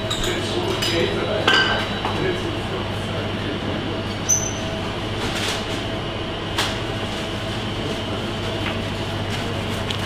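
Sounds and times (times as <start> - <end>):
kitchen equipment humming: 0.0 - 10.0.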